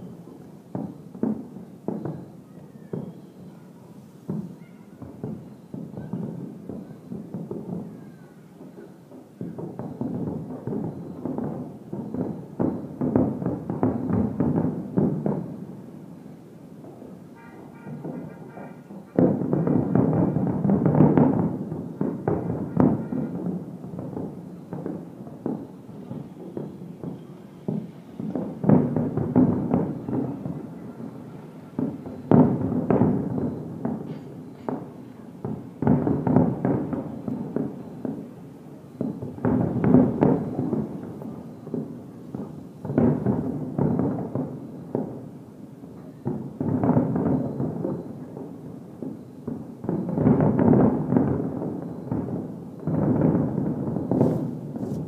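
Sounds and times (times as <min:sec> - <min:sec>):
distant fireworks booms: 0:00.0 - 0:55.0
fireworks crackle: 0:00.0 - 0:55.0.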